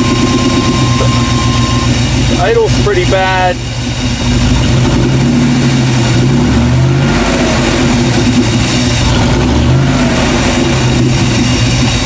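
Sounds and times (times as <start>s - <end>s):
car engine rough idle misfiring: 0.0s - 12.0s.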